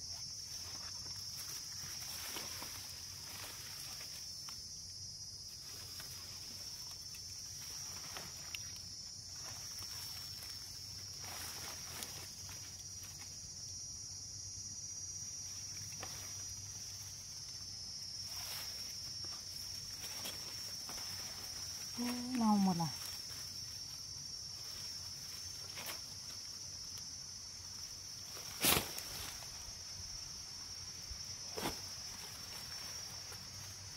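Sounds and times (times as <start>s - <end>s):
rustling dry leaves: 0.0s - 13.5s, 15.4s - 33.9s
insects buzzing: 0.0s - 33.9s.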